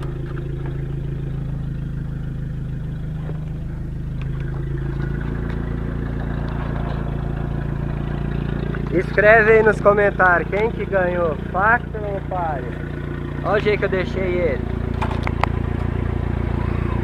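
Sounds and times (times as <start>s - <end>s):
car engine running from inside cabin: 0.0s - 17.0s.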